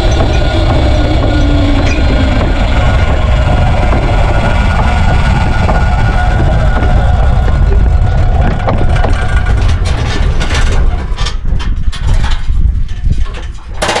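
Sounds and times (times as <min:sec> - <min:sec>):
heavy low rumble: 0:00.0 - 0:14.0
rear axle knocking and rattling: 0:00.0 - 0:14.0.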